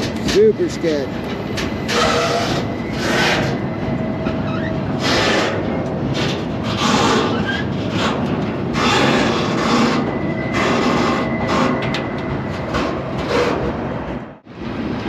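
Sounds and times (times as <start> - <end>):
freight car rumbling on rails: 0.0 - 15.0.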